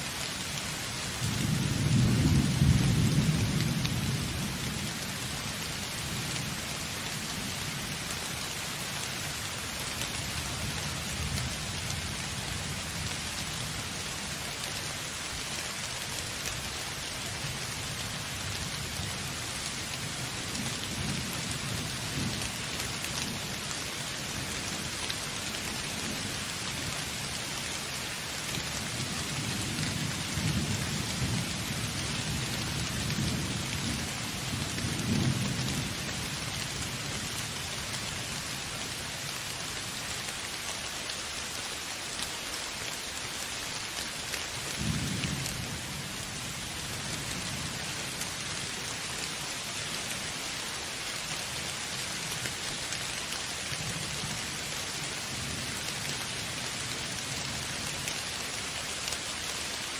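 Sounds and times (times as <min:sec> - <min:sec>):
heavy rain hissing: 0:00.0 - 0:59.9.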